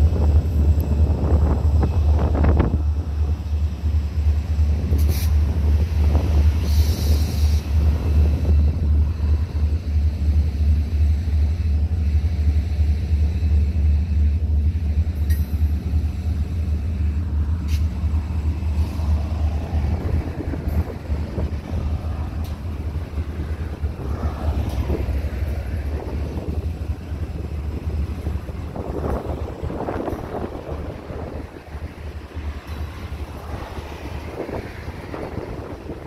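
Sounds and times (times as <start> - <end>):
train rumbling over bridge: 0.0 - 36.0.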